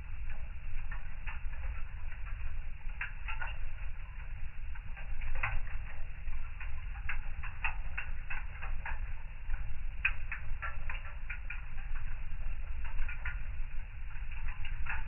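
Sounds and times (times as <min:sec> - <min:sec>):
fire crackling and popping: 0:00.0 - 0:15.0
low steady rumble: 0:00.0 - 0:15.0.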